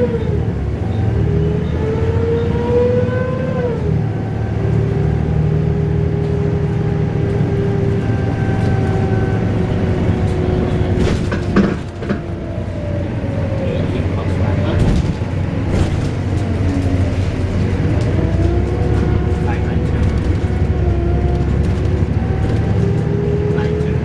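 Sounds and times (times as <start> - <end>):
bus engine with wailing whine: 0.0 - 24.0.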